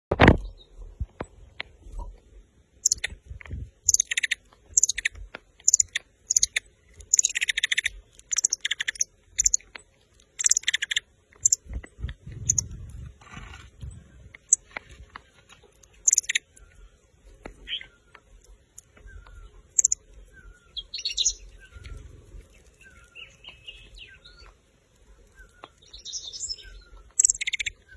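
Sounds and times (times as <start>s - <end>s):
small bird chirping: 2.8s - 27.9s.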